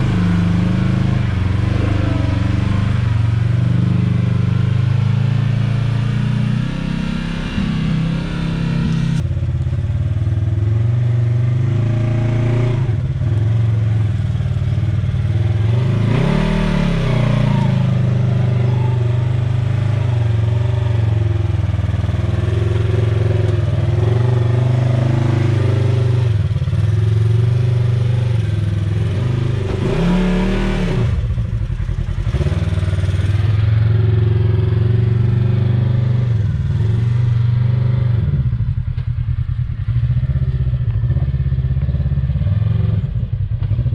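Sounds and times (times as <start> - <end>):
utility vehicle engine revving: 0.0 - 9.2, 11.5 - 43.9.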